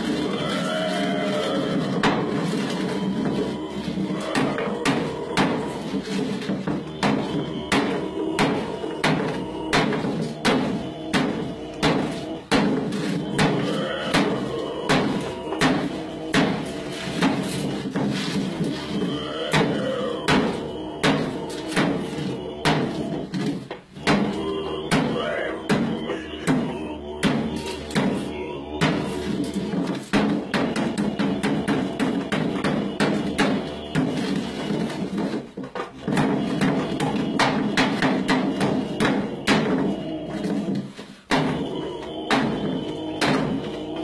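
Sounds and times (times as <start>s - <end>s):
steady knocking beat: 0.0s - 44.0s.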